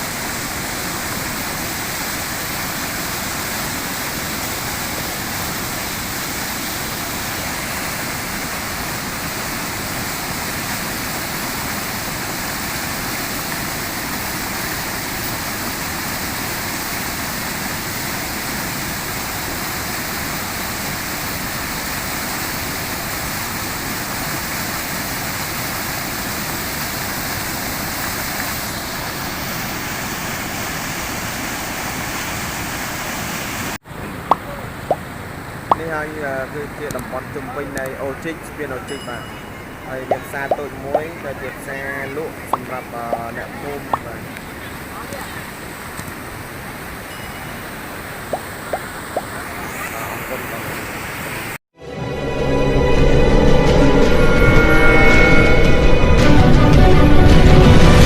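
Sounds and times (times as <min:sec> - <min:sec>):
floodwater rushing: 0:00.0 - 0:51.6.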